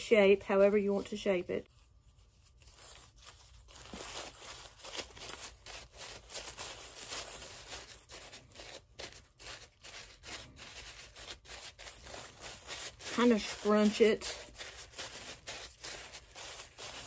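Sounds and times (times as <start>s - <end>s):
plastic sheeting crinkling: 0.1s - 17.0s.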